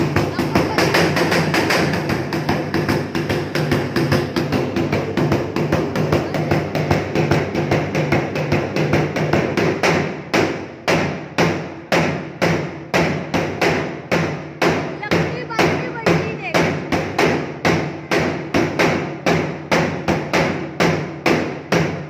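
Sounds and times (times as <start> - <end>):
barrel drum beaten with sticks: 0.0 - 22.0.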